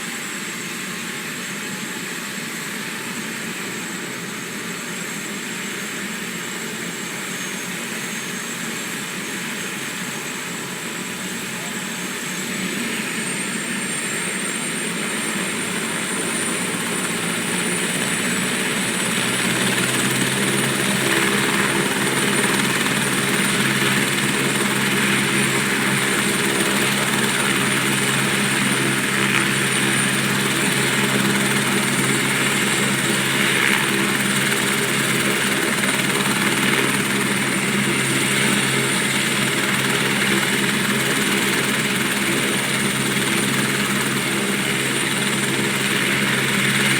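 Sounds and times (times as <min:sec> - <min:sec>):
helicopter rotor beat: 0:00.0 - 0:46.9
helicopter turbine whine: 0:00.0 - 0:46.9.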